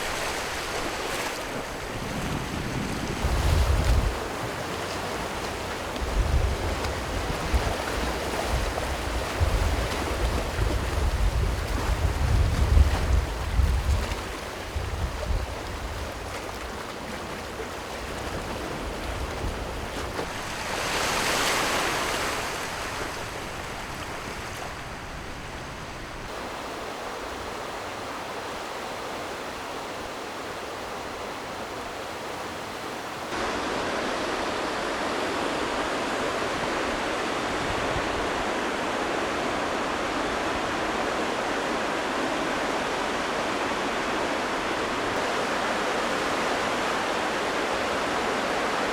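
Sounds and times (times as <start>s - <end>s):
sea waves breaking: 0.0s - 48.9s
wind: 0.0s - 48.9s.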